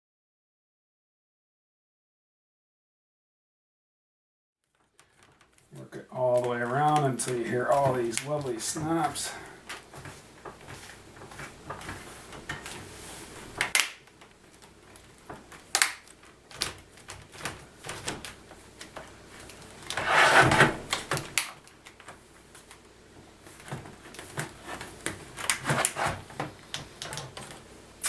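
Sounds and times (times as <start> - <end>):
plastic rubbing: 4.7 - 27.7.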